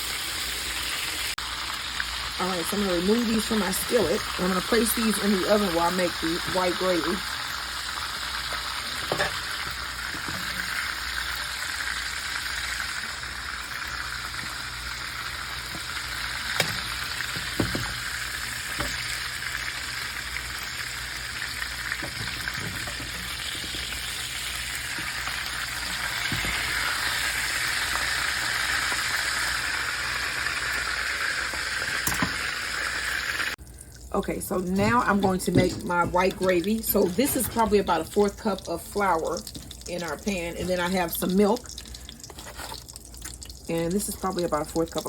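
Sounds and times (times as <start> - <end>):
oil sizzling in a skillet: 0.0 - 45.0.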